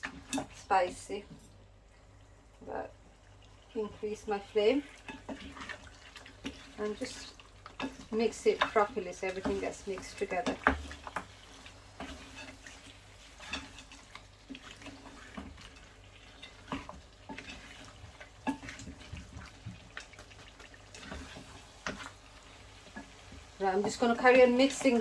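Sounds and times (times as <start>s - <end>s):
faint sizzle: 0.0s - 25.0s
spoon scraping and knocking pan: 4.3s - 25.0s.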